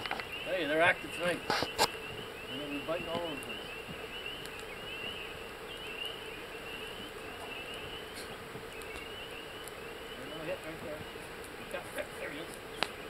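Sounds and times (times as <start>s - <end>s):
chorus of frogs peeping: 0.0s - 13.0s.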